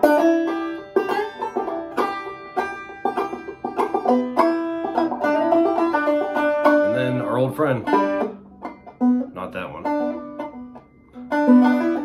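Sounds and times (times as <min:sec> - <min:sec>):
banjo plucked notes: 0:00.0 - 0:12.0.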